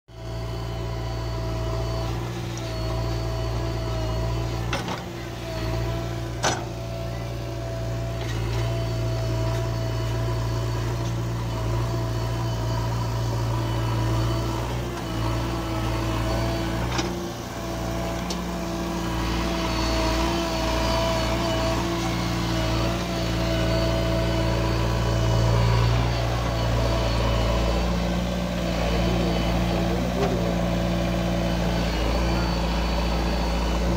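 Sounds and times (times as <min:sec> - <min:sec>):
diesel engine running: 0:00.1 - 0:33.9
steady whine: 0:00.1 - 0:33.9.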